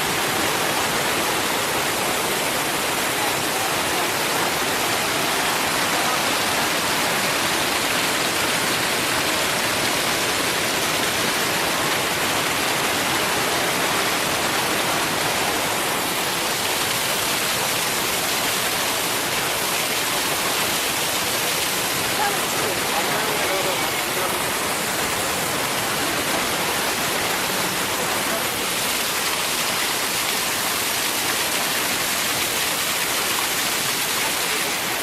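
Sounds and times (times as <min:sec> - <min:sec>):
waterfall crashing: 0:00.0 - 0:35.0.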